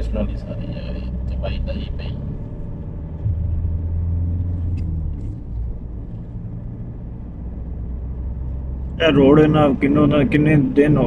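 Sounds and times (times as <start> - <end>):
car engine and tyre drone: 0.0 - 11.0.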